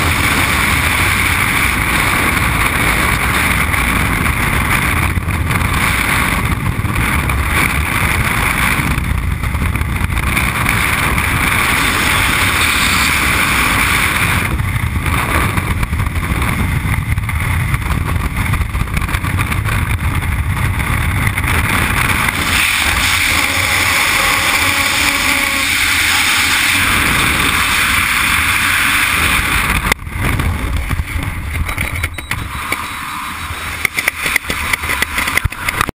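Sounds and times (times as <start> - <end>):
wind roaring across microphone: 0.0 - 35.9.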